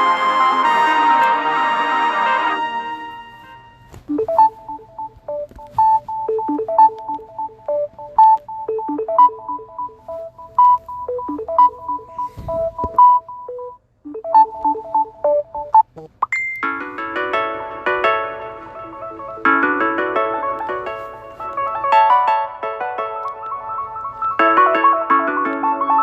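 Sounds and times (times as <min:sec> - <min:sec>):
electronic ringtone melody: 0:00.0 - 0:26.0.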